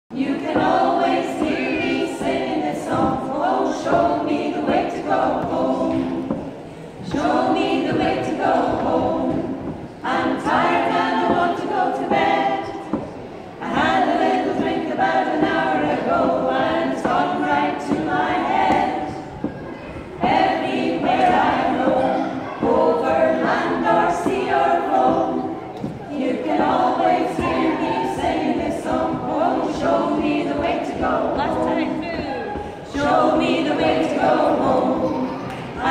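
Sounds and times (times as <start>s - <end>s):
mixed choir singing a cappella: 0.1s - 35.9s.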